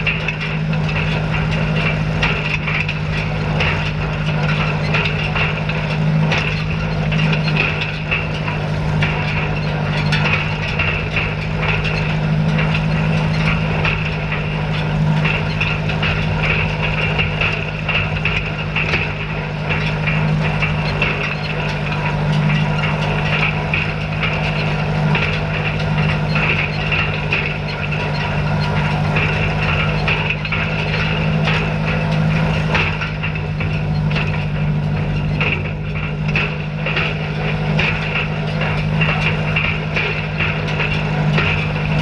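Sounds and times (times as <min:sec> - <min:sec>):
hay rake clicking and rattling: 0:00.0 - 0:42.0
tractor engine running: 0:00.0 - 0:42.0.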